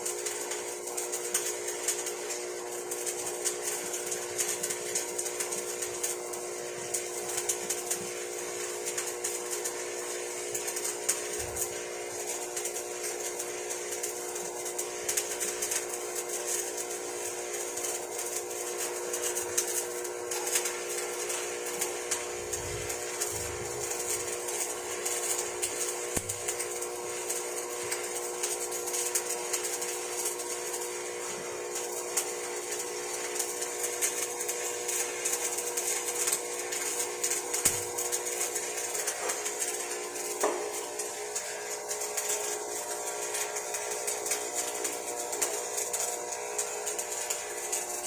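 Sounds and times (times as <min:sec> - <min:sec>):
welding arc crackling: 0:00.0 - 0:48.0.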